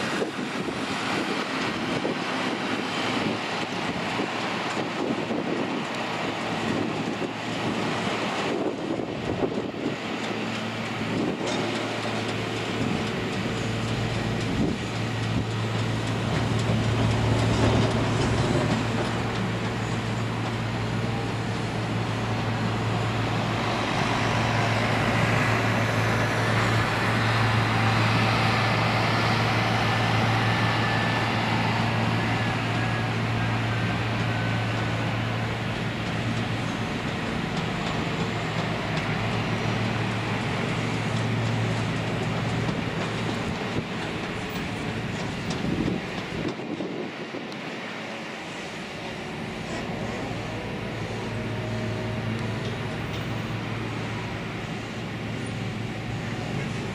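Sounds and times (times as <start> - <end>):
jet engines idling: 0.0 - 56.9
high turbine whine: 10.9 - 56.9.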